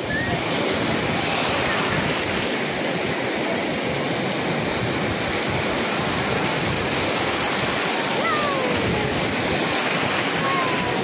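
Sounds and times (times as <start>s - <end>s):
sea waves breaking: 0.0s - 11.0s.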